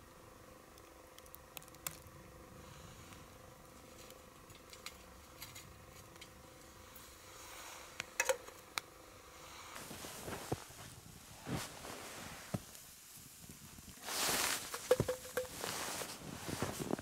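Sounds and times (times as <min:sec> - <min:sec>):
low steady hum: 0:00.0 - 0:17.0
stove fire crackling: 0:00.0 - 0:17.0.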